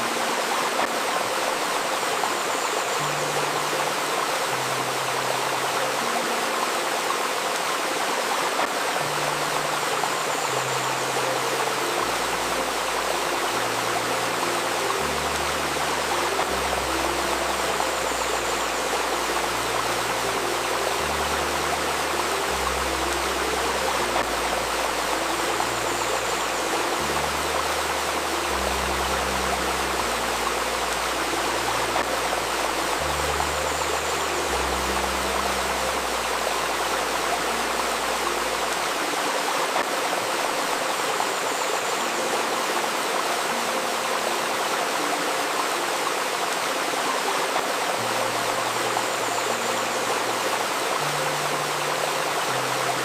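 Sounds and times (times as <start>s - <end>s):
river babbling: 0.0s - 53.0s.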